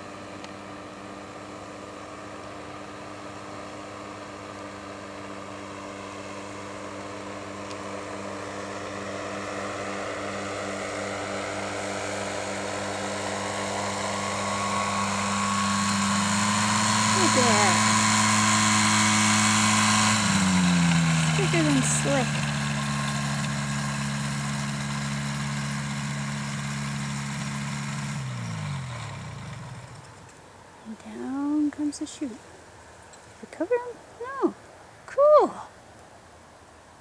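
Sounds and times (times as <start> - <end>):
propeller engine drone: 0.0 - 32.4.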